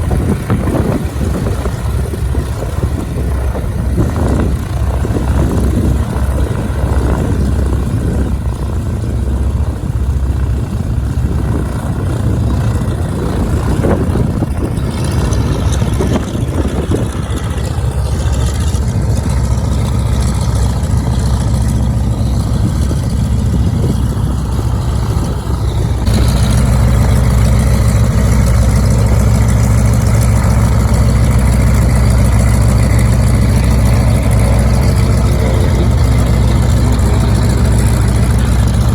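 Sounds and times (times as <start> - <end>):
radial aircraft engines running: 0.0 - 38.9.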